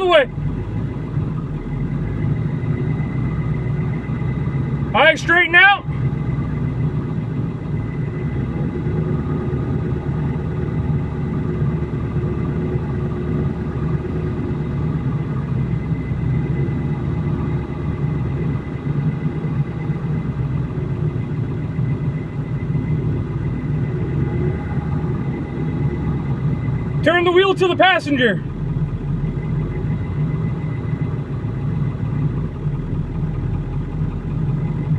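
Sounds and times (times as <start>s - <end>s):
vehicle engine humming: 0.0s - 34.9s.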